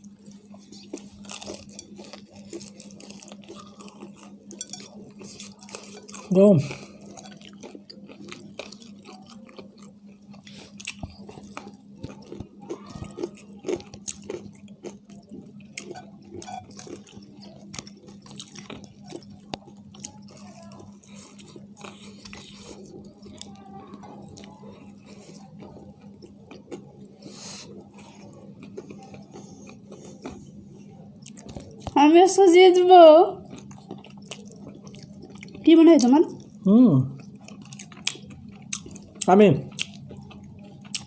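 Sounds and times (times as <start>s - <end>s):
people chewing crunchy food: 0.0s - 41.0s
steady low hum: 0.0s - 41.0s.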